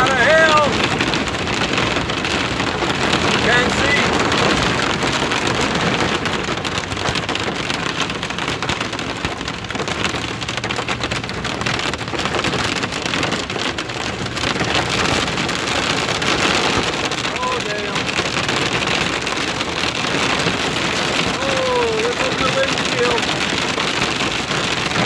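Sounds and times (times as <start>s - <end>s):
hail pelting a car: 0.0s - 25.0s.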